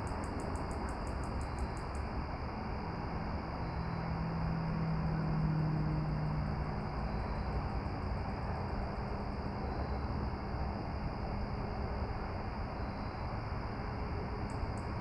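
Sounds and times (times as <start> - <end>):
distant engine hum: 0.0 - 15.0
insect chirps: 0.0 - 15.0
low rumble and hiss: 0.0 - 15.0.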